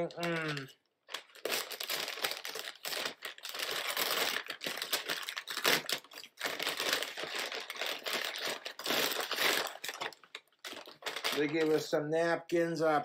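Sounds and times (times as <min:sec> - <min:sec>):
paper bag rustling and tearing: 0:00.2 - 0:11.8.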